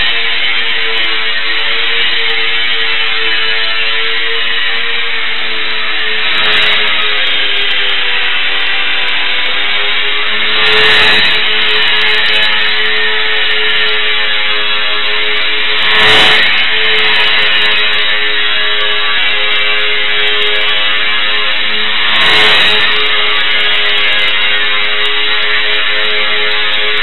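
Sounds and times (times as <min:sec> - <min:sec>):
model plane motor and propeller whining: 0:00.0 - 0:27.0.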